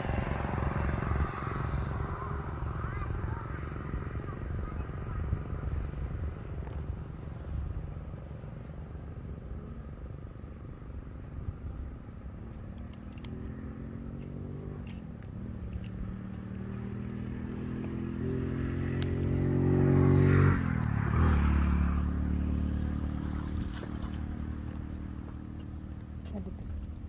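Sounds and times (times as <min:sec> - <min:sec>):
motor engine passing by: 0:00.0 - 0:10.7, 0:11.4 - 0:27.0.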